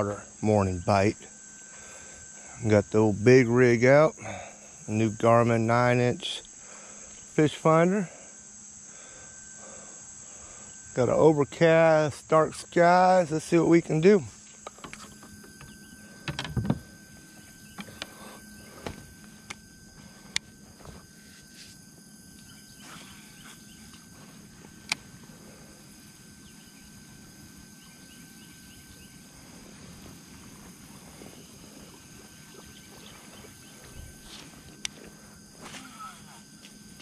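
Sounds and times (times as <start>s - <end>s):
faint insect chirring: 0.0s - 37.0s.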